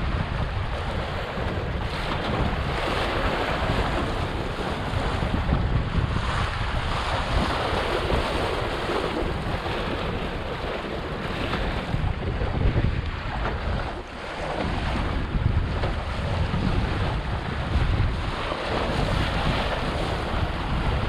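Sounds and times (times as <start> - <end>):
water splashing along hull: 0.0 - 21.0
wind buffeting microphone: 0.0 - 21.0.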